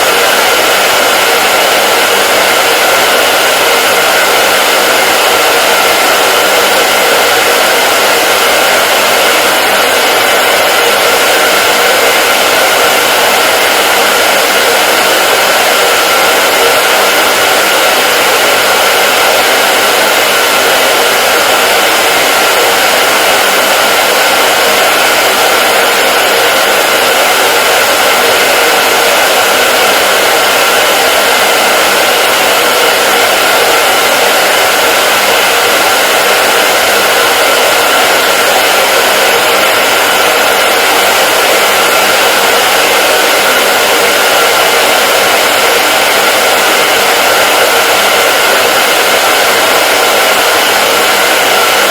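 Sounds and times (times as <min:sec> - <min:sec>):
hair dryer running: 0:00.0 - 0:51.9.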